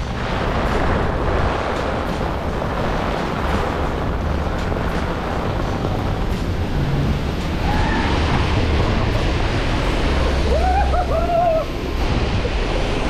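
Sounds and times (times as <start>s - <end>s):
heavy rain on umbrella: 0.0s - 13.0s
wind rumble on microphone: 0.0s - 13.0s.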